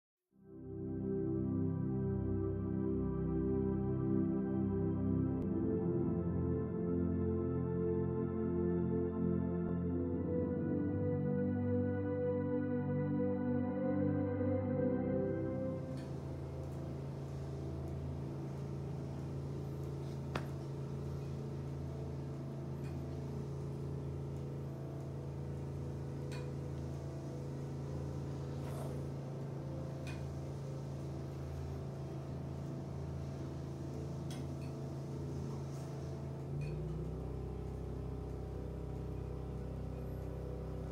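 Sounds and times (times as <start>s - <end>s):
low room hum: 0.7s - 40.9s.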